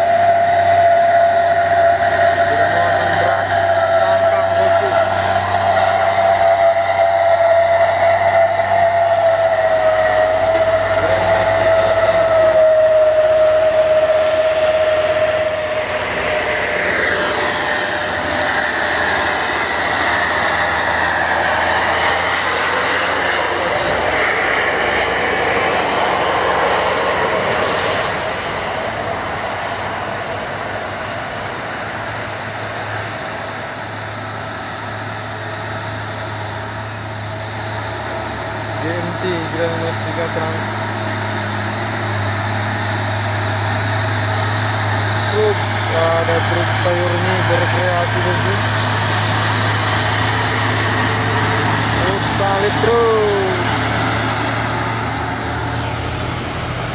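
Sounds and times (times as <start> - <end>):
diesel trucks climbing a hill: 0.0 - 56.9
high whine dropping in pitch: 0.0 - 56.9.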